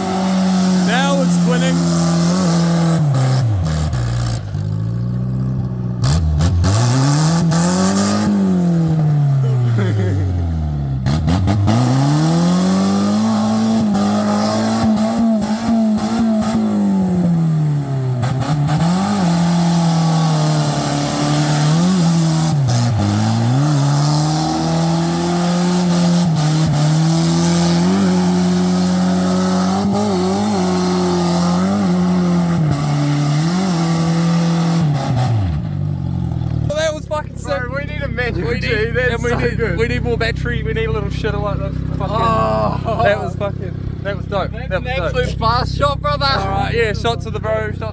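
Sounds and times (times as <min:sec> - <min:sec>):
car engine at high revs: 0:00.0 - 0:47.9.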